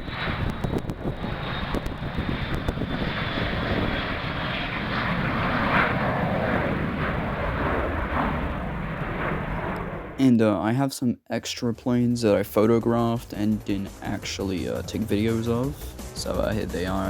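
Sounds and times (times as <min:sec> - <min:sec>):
airliner engines roaring: 0:00.0 - 0:10.2, 0:13.3 - 0:17.0.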